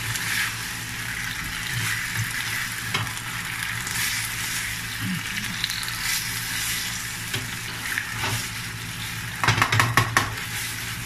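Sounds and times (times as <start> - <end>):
noodles sizzling in a frying pan: 0.0 - 11.0.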